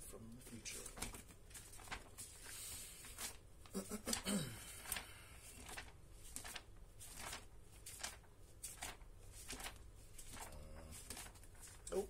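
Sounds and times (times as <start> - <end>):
paper pages rustling: 0.3 - 12.0.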